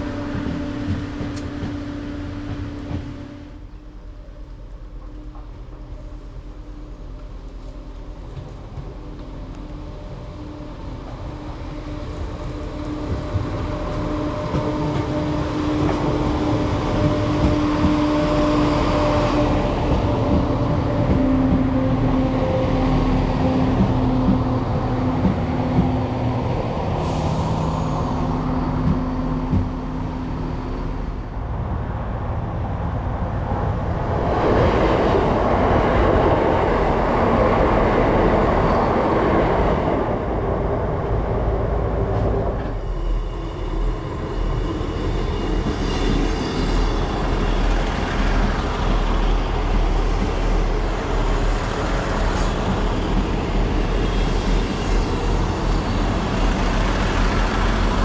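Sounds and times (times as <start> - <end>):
train engine humming: 0.0 - 58.0
wheels rumbling on rails: 0.0 - 58.0
train rushing past: 9.8 - 58.0.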